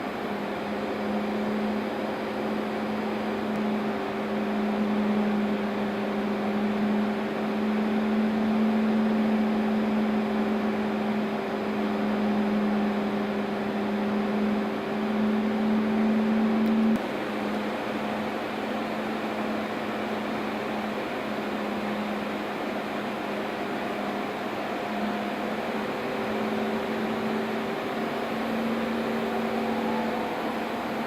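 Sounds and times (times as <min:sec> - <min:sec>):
boiler machinery drone: 0:00.0 - 0:31.0.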